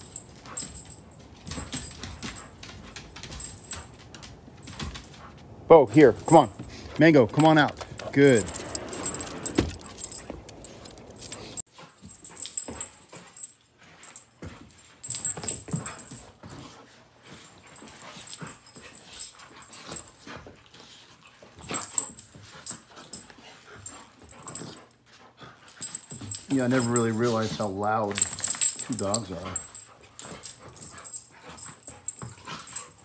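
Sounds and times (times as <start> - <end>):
collar tags jingling: 0.0 - 33.0
dogs playing and scuffling: 0.0 - 33.0.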